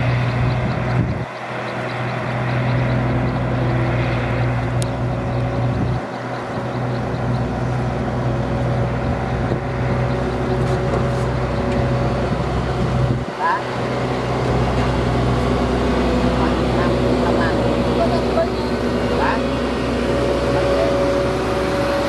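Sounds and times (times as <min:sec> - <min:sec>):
diesel machinery engine running: 0:00.0 - 0:22.0.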